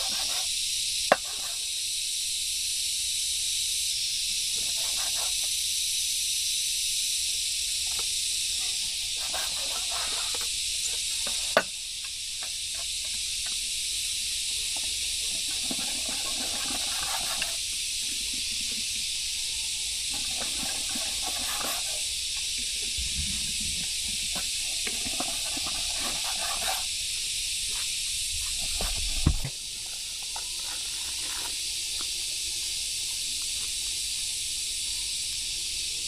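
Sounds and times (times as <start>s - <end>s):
high-pitched hiss: 0.0s - 36.0s.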